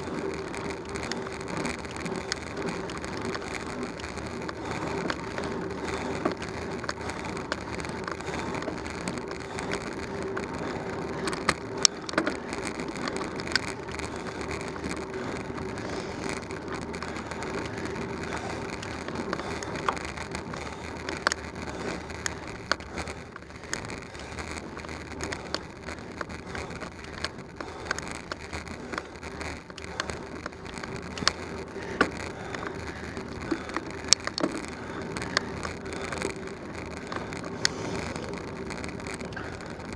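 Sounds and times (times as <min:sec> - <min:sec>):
bicycle clicks and rattles: 0:00.0 - 0:39.9
bicycle tyre road noise: 0:00.0 - 0:39.9.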